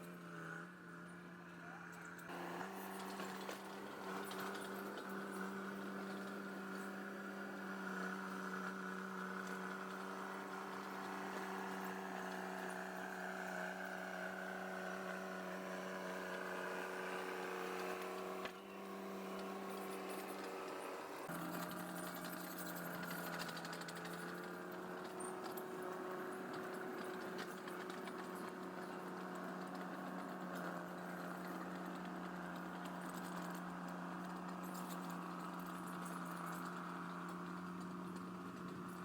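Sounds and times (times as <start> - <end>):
diesel engine running: 2.3 - 39.0.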